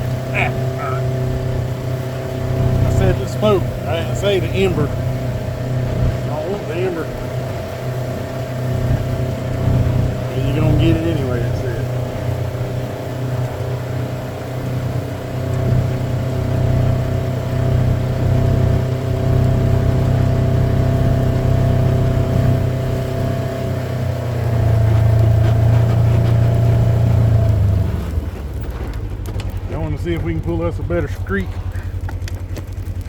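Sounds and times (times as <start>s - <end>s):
buggy engine running: 0.0s - 33.0s.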